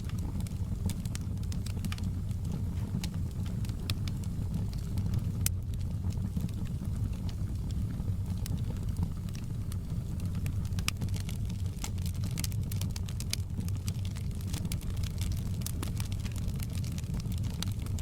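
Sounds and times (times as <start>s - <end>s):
burning wood crackling and popping: 0.0s - 18.0s
low rumble of flame: 0.0s - 18.0s.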